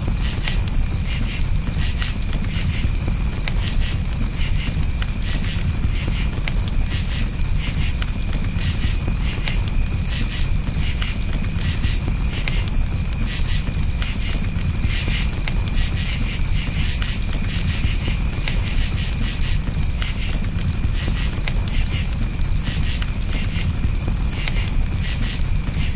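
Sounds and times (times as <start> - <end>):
campfire crackling: 0.0 - 25.9
crickets chirping: 0.0 - 25.9.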